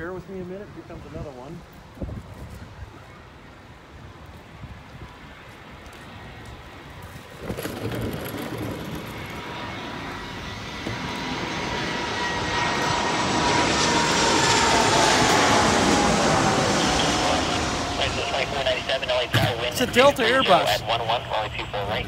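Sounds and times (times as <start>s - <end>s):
jet airliner passing overhead: 0.0s - 22.0s
jet engine whine: 0.0s - 22.0s.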